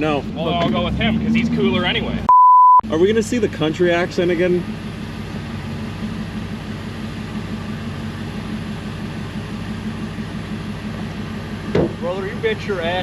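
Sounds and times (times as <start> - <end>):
low pulsing exhaust note: 0.0 - 2.3, 2.9 - 13.0
car engine running steadily: 0.0 - 13.0.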